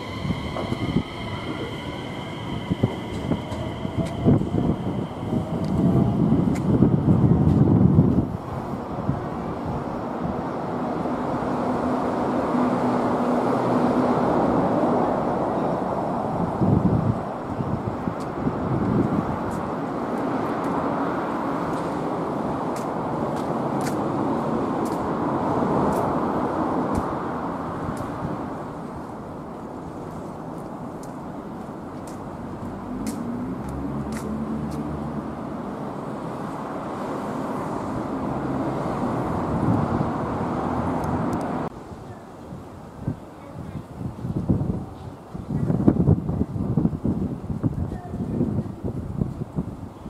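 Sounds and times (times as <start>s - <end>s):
passing cars rushing: 0.0s - 30.0s, 30.7s - 41.7s
city traffic hum: 0.0s - 50.0s.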